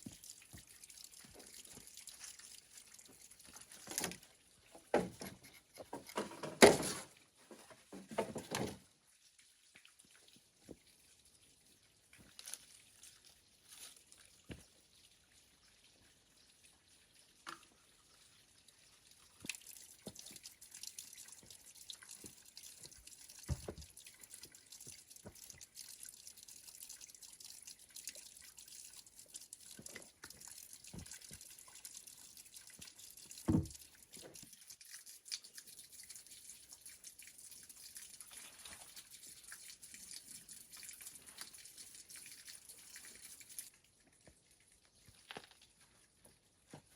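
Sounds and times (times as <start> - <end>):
water dripping and trickling: 0.0 - 46.9.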